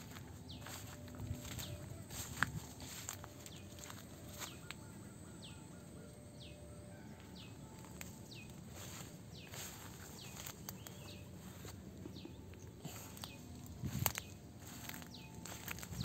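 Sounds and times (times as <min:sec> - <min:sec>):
faint rural background noise: 0:00.0 - 0:16.0.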